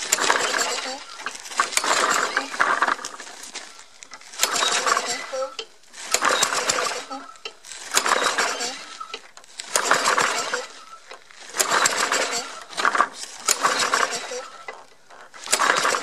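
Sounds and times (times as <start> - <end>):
lawnmower engine running unevenly: 0.0 - 16.0.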